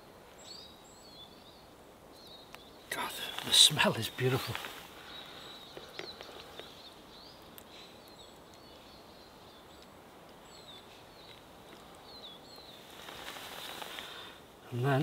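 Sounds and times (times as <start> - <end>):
birds chirping: 0.0 - 15.0
outdoor background hiss: 0.0 - 15.0.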